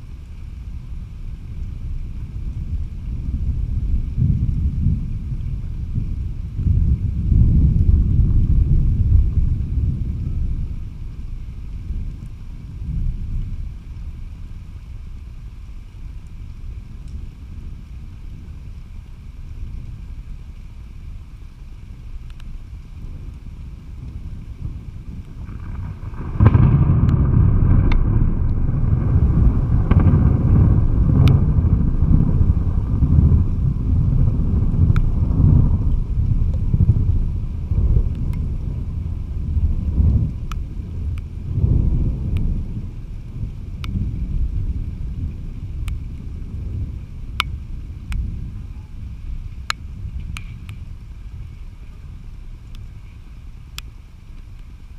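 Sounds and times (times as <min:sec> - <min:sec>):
rolling thunder: 0:00.0 - 0:15.6, 0:22.3 - 0:53.5.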